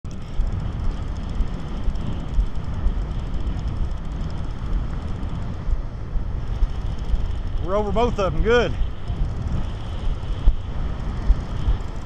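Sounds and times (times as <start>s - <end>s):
faint surf: 0.1s - 12.0s
wind buffeting microphone: 0.1s - 12.0s.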